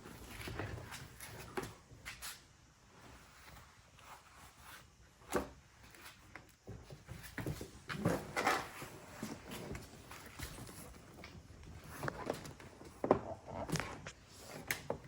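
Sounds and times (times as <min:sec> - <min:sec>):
handling rustles and knocks: 0:00.0 - 0:15.0.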